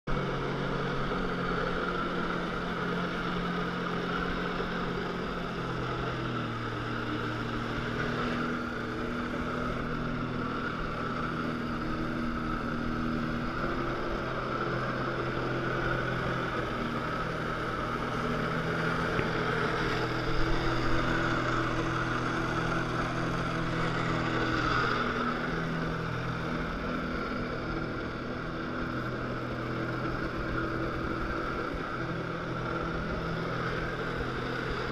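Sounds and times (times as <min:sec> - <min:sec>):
wind: 0:00.0 - 0:34.9
personal watercraft engine revving: 0:00.1 - 0:34.9.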